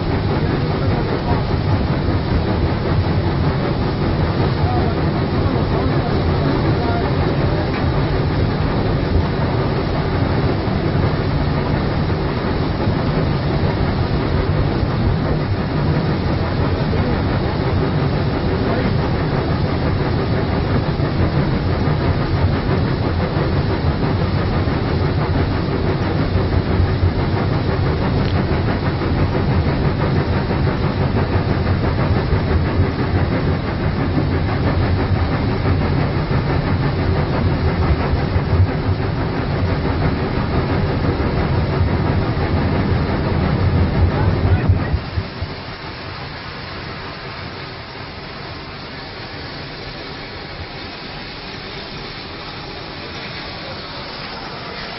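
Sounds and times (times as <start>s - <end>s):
steam locomotive running: 0.0s - 54.9s.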